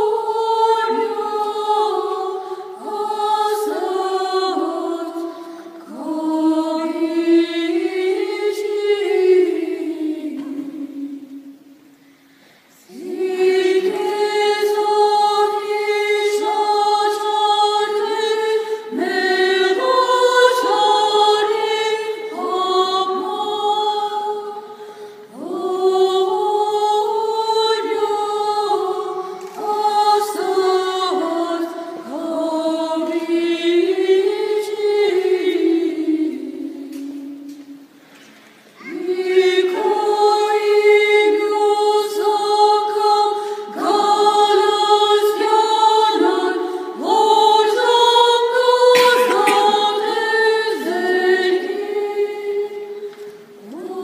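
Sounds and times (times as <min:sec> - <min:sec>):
choir singing a hymn a cappella: 0:00.0 - 0:12.0, 0:12.6 - 0:38.0, 0:38.7 - 0:54.0.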